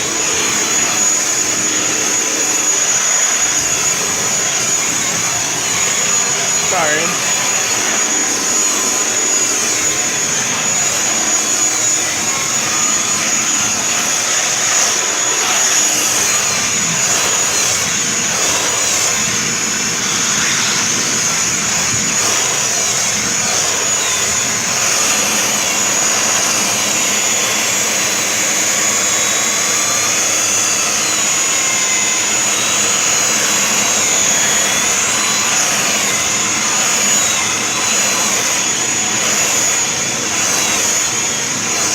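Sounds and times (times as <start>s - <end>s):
vacuum cleaner whining: 0.0s - 41.9s.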